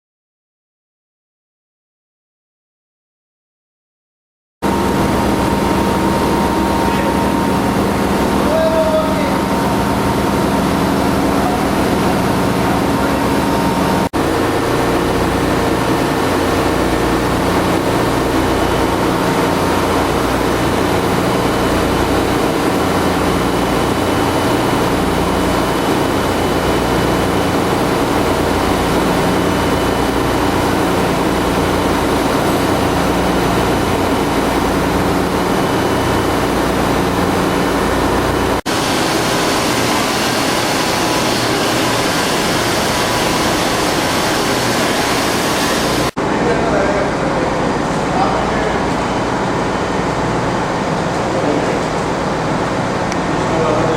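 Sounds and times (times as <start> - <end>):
engine room machinery din: 4.6 - 53.9.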